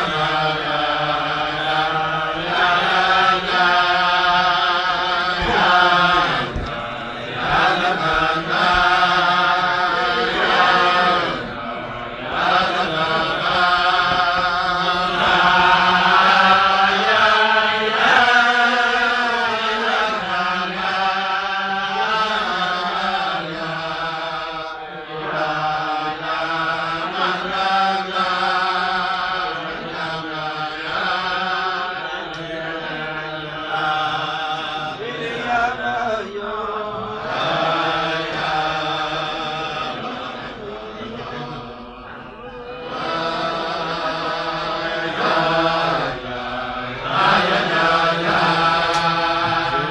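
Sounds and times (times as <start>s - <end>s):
men singing together: 0.0s - 49.9s.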